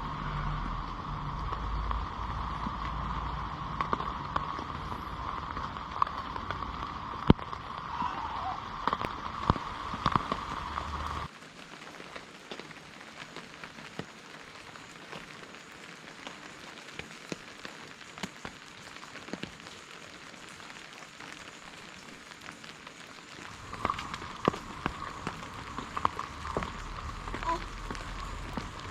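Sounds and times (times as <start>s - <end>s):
raindrops ticking on a surface: 0.0s - 28.9s
steady rain falling: 0.0s - 28.9s.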